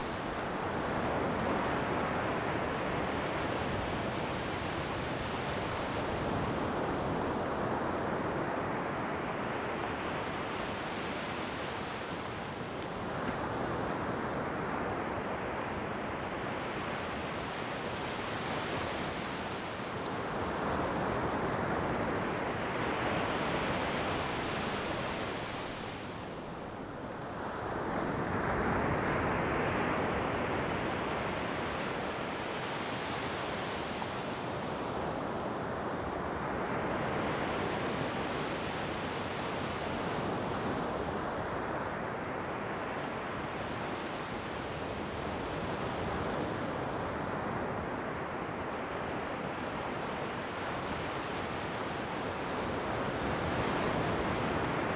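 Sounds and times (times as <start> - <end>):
ocean waves breaking on shore: 0.0 - 54.9.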